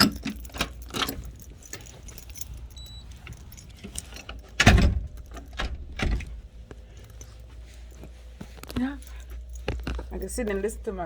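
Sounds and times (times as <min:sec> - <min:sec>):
keys jangling: 0:00.0 - 0:11.0.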